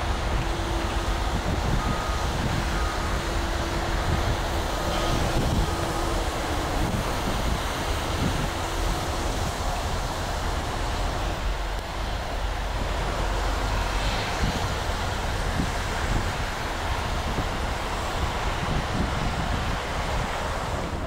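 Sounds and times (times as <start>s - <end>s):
diesel locomotives rumbling: 0.0s - 21.0s
wind buffeting microphone: 0.0s - 21.0s.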